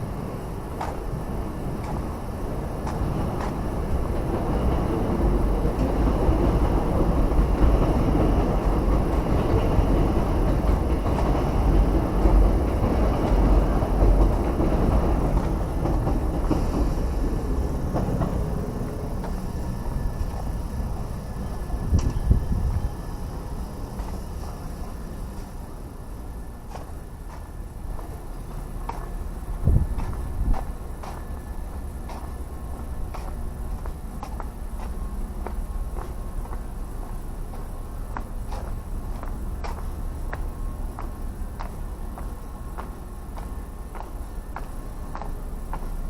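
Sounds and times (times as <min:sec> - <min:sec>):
train rumble and rail noise: 0:00.0 - 0:46.0.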